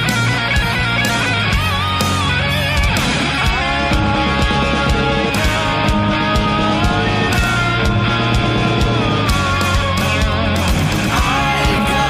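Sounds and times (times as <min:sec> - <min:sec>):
distorted electric guitar: 0:00.0 - 0:12.0
rock band playing: 0:00.0 - 0:12.0.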